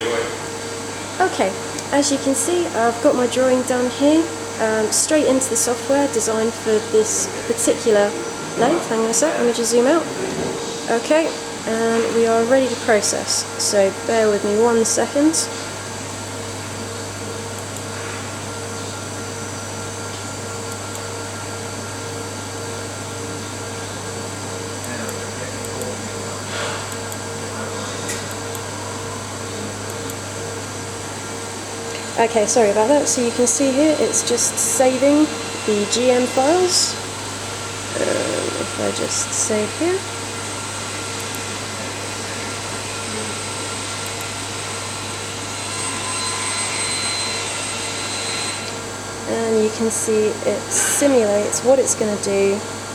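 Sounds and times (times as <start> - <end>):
faint high whine: 0.0 - 52.5
equipment fan hum: 0.0 - 52.9
low electrical drone: 0.0 - 52.9.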